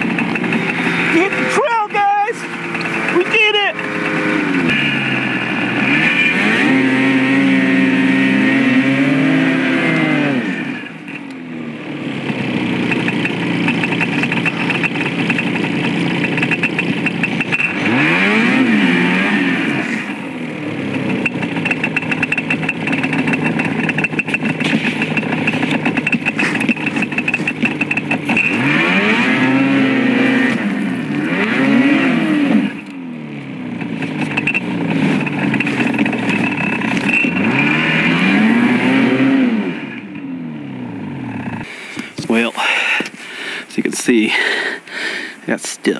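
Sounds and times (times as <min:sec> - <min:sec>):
snowmobile engine revving: 0:00.0 - 0:45.8.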